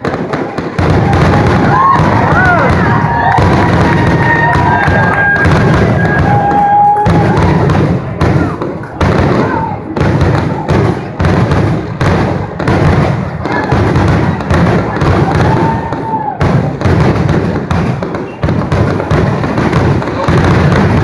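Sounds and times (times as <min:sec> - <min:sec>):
firework whistling: 0:00.0 - 0:21.0
fireworks booming and cracking: 0:00.0 - 0:21.0.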